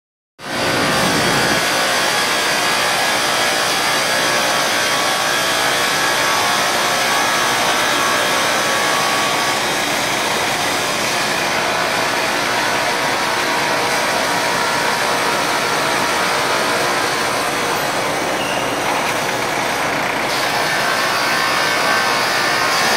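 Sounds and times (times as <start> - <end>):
loud machinery din: 0.4 - 22.9
faint machine whines: 0.5 - 22.9.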